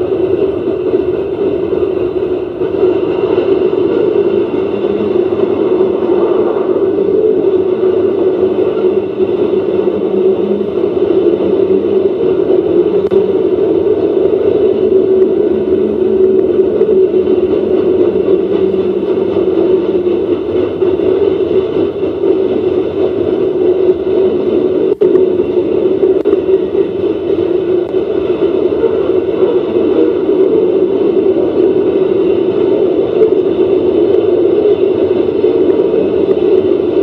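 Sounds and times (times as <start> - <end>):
freight cars rolling on rails: 0.0 - 37.0.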